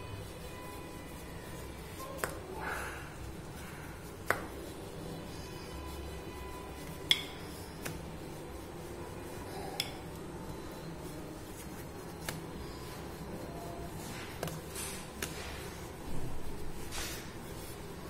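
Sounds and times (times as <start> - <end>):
fingers rubbing dough: 0.0 - 18.0.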